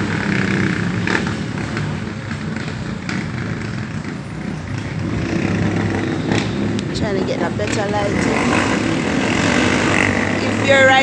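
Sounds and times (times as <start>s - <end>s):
vehicle engines rumbling in traffic: 0.0s - 11.0s.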